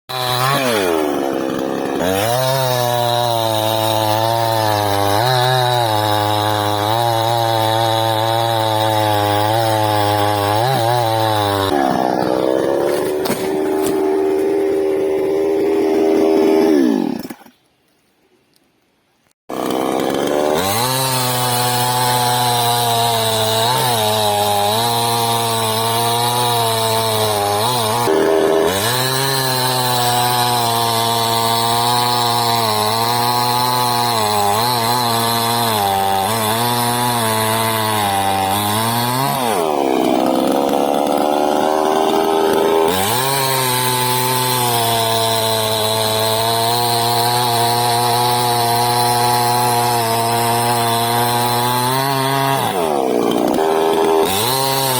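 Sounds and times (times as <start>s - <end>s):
chainsaw cutting wood: 0.0s - 17.6s, 19.5s - 54.9s.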